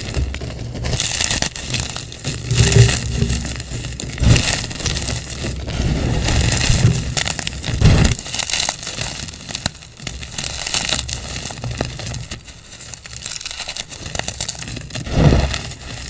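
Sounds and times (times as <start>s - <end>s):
chalk crunching in hands: 0.0s - 16.0s.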